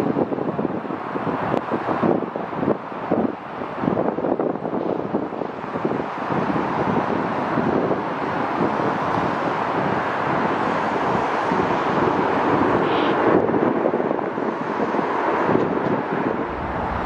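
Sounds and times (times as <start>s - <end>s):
wind buffeting the microphone: 0.0s - 17.0s.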